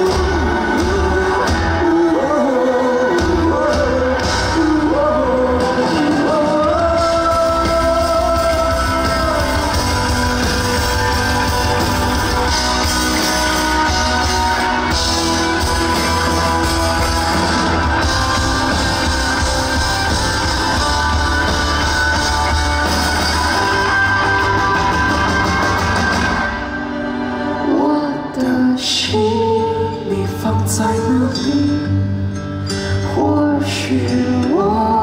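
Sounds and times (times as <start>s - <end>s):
live rock band: 0.0s - 35.0s
person singing: 0.0s - 35.0s.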